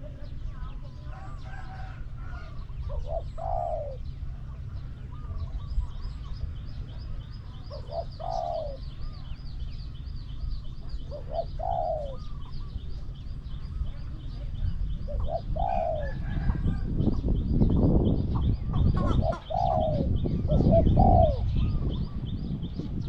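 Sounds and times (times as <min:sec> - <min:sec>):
dove cooing: 0:00.0 - 0:09.6, 0:10.2 - 0:23.0.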